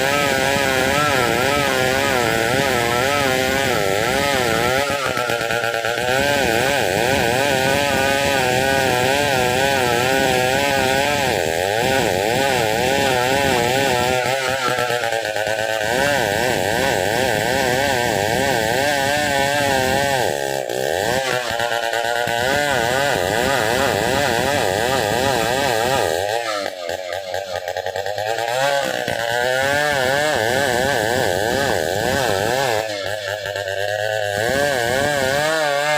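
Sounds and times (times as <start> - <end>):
chainsaw cutting through wood: 0.0 - 35.9.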